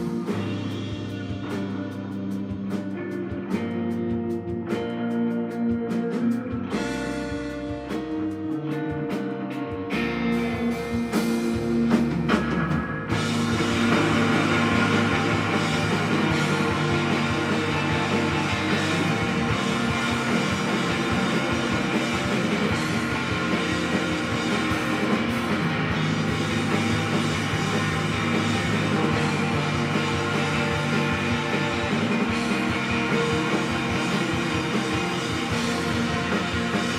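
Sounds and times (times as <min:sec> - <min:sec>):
drums: 0:00.0 - 0:36.9
rock band playing live: 0:00.0 - 0:36.9.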